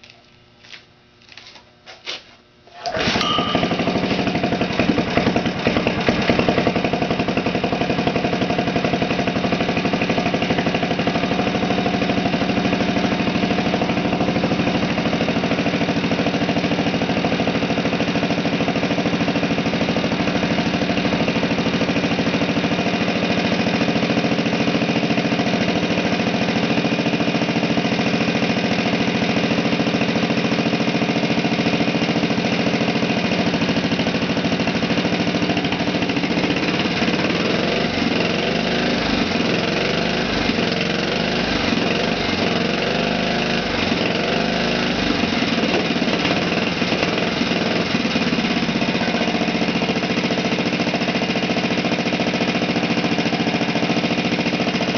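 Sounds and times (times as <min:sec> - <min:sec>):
small engine running: 0:02.8 - 0:54.9.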